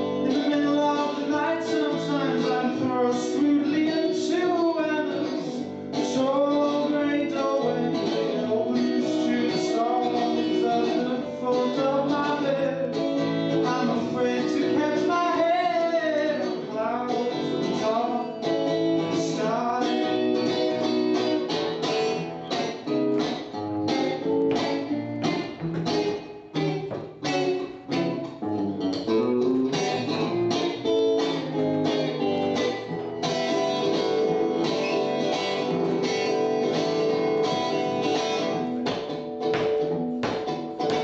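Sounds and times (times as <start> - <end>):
solo guitar playing: 0.0 - 41.0.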